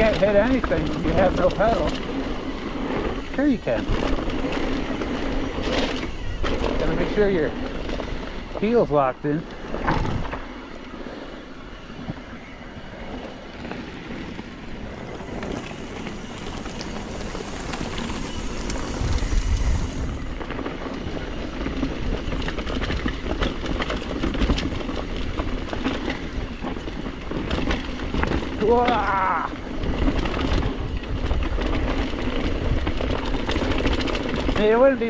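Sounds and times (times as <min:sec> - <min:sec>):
bike rattling: 0:00.0 - 0:35.0
bike tyres rolling on dirt: 0:00.0 - 0:35.0.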